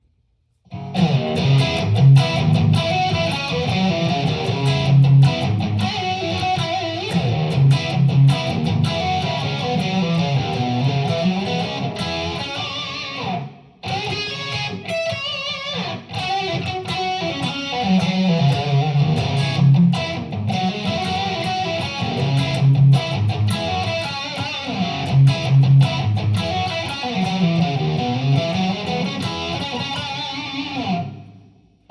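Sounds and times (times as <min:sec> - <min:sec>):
amplified electric guitar riffs: 0:00.7 - 0:31.8.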